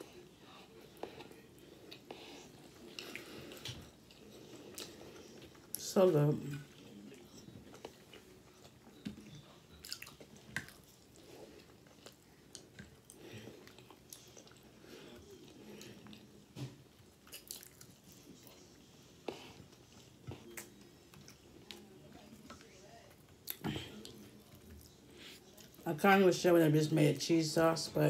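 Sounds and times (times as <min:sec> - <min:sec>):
chewing french fries: 0:00.0 - 0:25.9.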